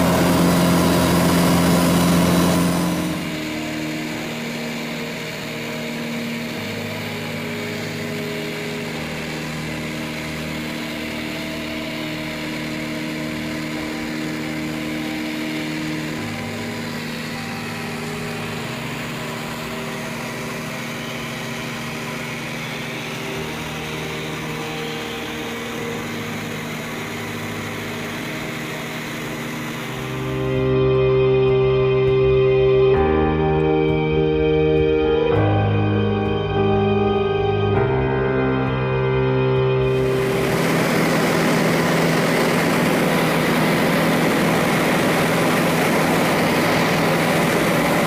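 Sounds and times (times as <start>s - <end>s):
airplane engine drone in cabin: 0.0s - 48.0s.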